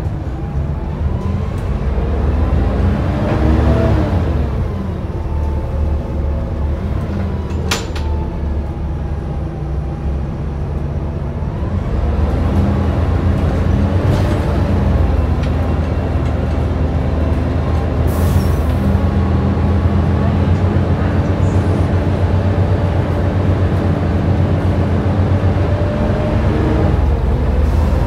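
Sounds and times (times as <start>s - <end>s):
bus engine drone: 0.0s - 28.0s.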